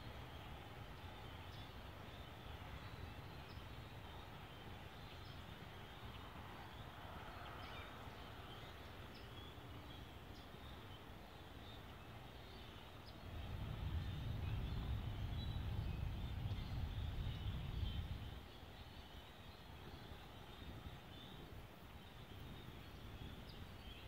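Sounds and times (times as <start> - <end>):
steady outdoor hiss: 0.0 - 24.0.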